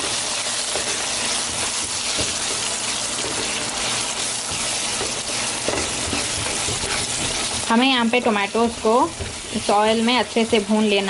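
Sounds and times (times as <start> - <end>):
vegetables sizzling in hot oil: 0.0 - 11.0
wooden spatula scraping pan: 0.0 - 11.0.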